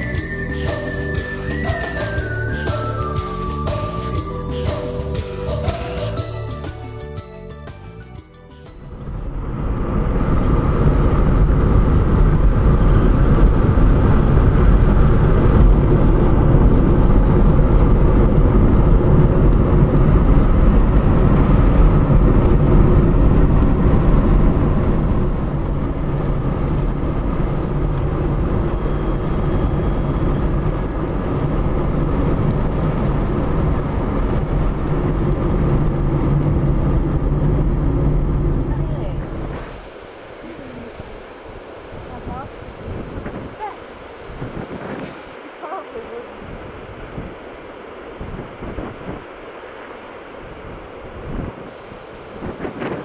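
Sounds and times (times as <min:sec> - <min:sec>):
car engine and tyre rumble: 0:07.4 - 0:53.0.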